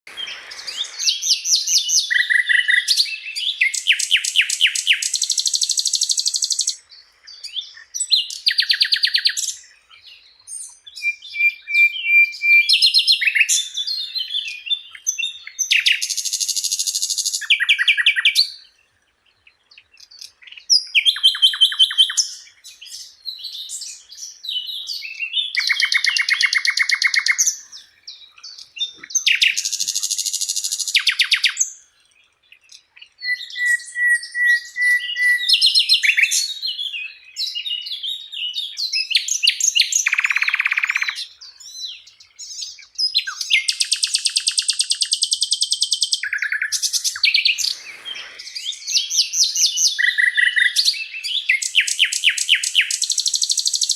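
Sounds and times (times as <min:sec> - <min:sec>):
bird singing rattling trills: 0:00.1 - 0:18.7, 0:19.8 - 0:53.9.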